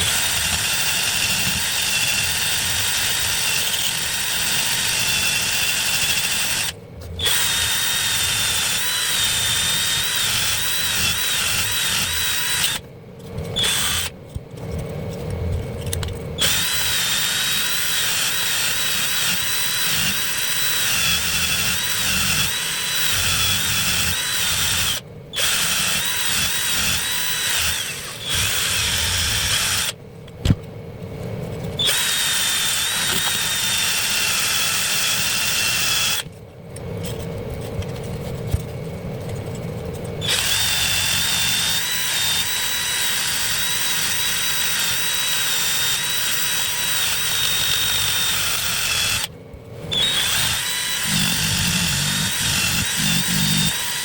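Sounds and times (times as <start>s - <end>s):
power tool motor whining: 0.0s - 12.8s, 13.6s - 14.1s, 16.4s - 30.0s, 31.8s - 36.3s, 40.2s - 49.3s, 49.9s - 54.0s.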